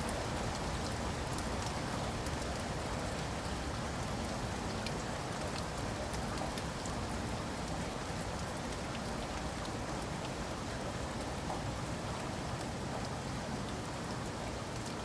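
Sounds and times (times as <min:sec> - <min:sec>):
rain falling: 0:00.0 - 0:15.0
raindrops ticking on a surface: 0:00.0 - 0:15.0.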